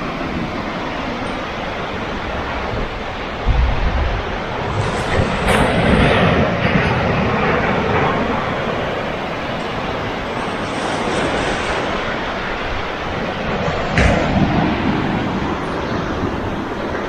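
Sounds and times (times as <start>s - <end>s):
ocean surf on rocky shore: 0.0s - 17.0s
wind buffeting microphone: 0.0s - 17.0s.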